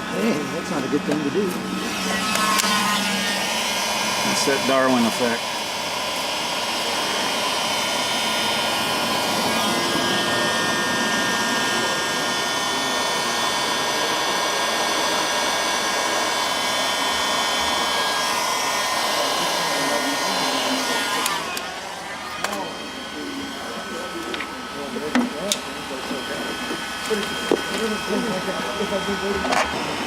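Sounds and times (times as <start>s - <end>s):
heat gun blowing air: 0.1s - 30.0s.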